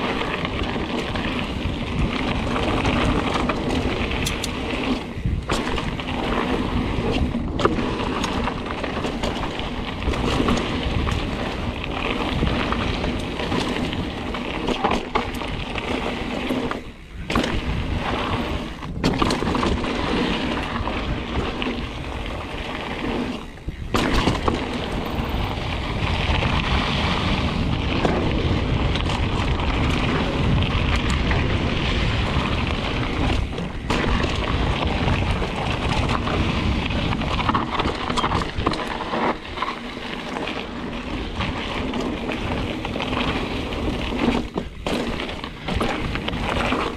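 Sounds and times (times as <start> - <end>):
bike chain and frame rattling: 0.0 - 46.9
bike tyres crunching over stones: 0.0 - 46.9.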